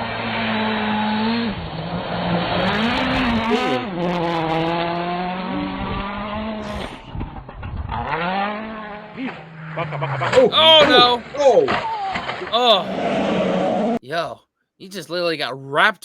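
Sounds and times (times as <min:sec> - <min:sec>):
heavy tyre noise: 0:00.0 - 0:14.0
rally car engine revving: 0:00.0 - 0:14.0.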